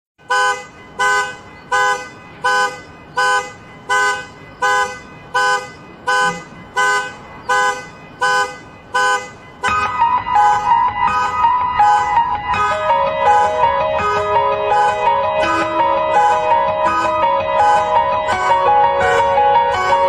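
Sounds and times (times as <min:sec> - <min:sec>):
car horn honking: 0:00.2 - 0:20.0.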